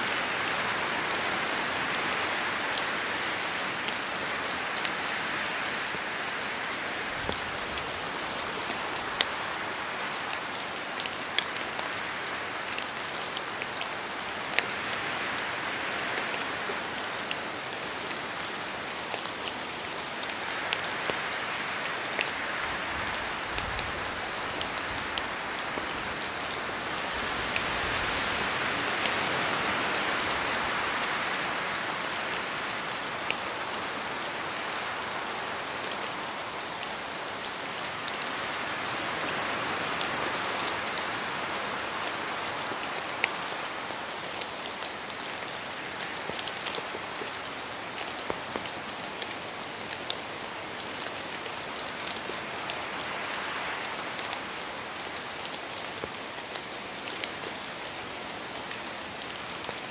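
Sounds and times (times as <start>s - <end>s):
raindrops ticking on surfaces: 0.0s - 59.9s
steady rain hiss: 0.0s - 59.9s.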